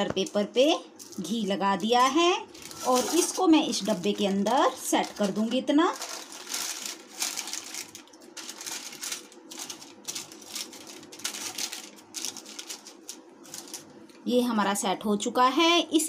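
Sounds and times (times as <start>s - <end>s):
paper rustling and crinkling: 1.0s - 14.0s.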